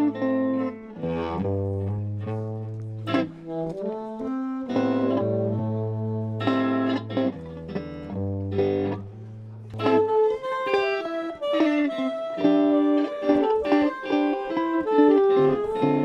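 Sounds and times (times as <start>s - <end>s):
electric guitar: 0.0s - 16.0s
saxophone: 0.0s - 16.0s.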